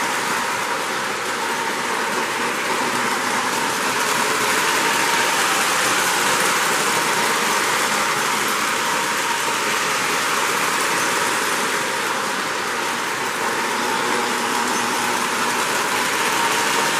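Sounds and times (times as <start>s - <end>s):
model train running on track: 0.0s - 16.9s.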